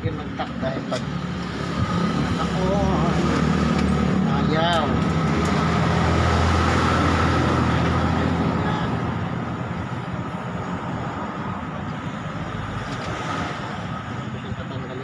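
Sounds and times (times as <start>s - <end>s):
traffic noise: 0.0s - 15.0s
vehicle engine hum: 0.0s - 15.0s.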